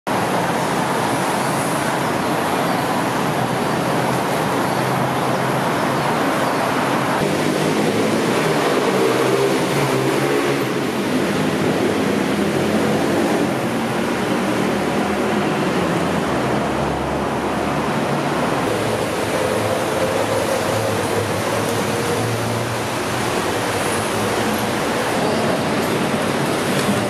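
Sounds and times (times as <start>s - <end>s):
city road traffic: 0.0s - 27.0s
passing engines: 0.1s - 27.0s.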